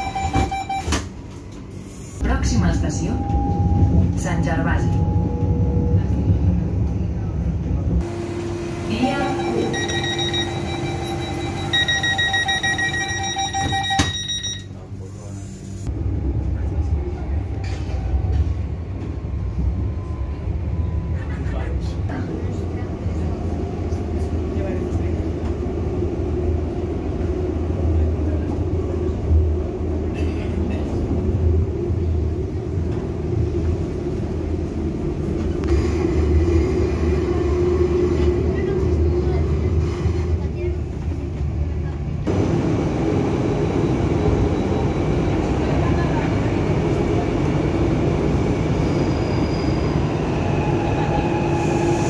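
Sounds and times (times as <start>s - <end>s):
train rumble and hum: 0.0s - 52.0s.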